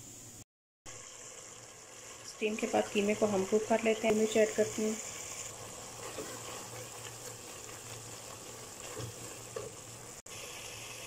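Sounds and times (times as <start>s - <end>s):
meat sizzling in a pot: 0.9s - 11.0s.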